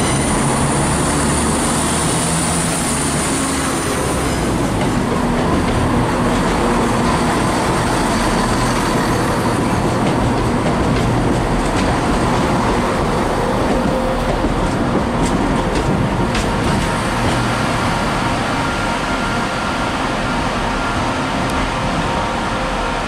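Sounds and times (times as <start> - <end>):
train rumbling and humming: 0.0 - 23.0.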